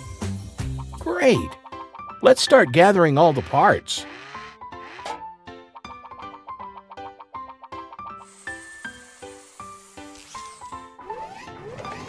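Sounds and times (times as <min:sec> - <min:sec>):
plucked cartoon music: 0:00.0 - 0:12.0.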